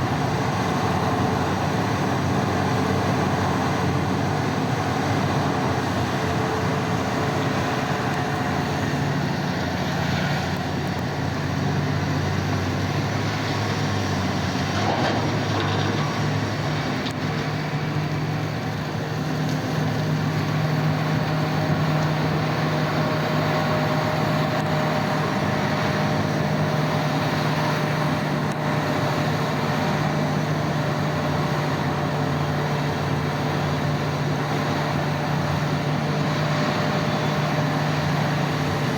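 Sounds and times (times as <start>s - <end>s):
heavy diesel machinery droning: 0.0s - 38.9s.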